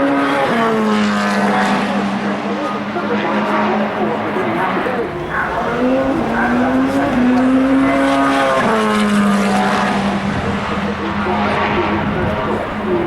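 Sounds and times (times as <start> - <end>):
race car engine passing by: 0.0 - 13.0.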